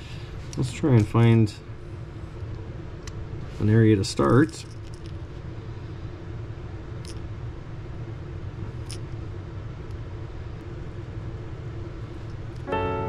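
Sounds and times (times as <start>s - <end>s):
low rumble with faint hum: 0.0s - 13.0s.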